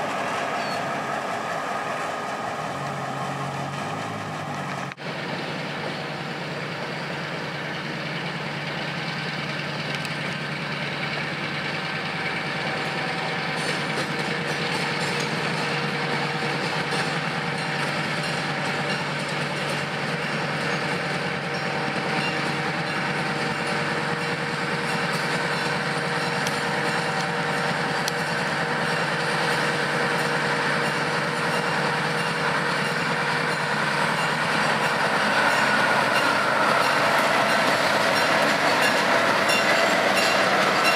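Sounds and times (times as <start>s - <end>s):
diesel locomotives drone: 0.0s - 40.9s.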